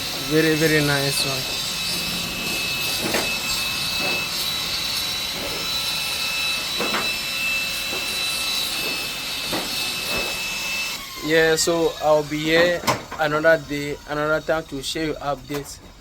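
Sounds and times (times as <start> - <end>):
mechanical noise with high whine: 0.0 - 16.0.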